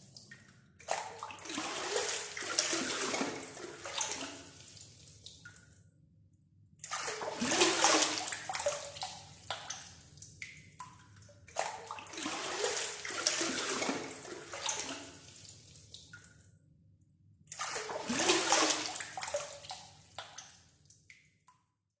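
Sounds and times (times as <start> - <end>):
water poured and splashing: 0.0 - 5.7, 6.8 - 16.4, 17.5 - 20.6
water dripping: 0.0 - 21.6.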